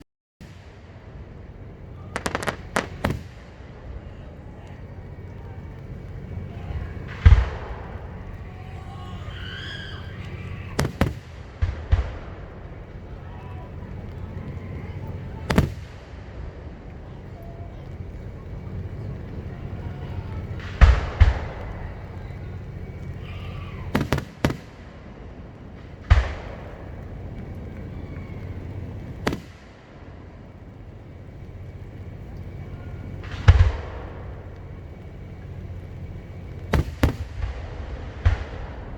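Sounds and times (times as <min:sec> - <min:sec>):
firework sharp cracks: 0:00.0 - 0:38.9
firework deep boom: 0:00.4 - 0:38.9.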